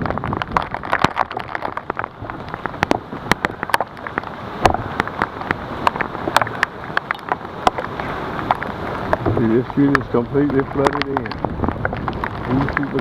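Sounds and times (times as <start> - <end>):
heavy rain falling: 0.0 - 13.0
sharp raindrop hits: 0.0 - 13.0.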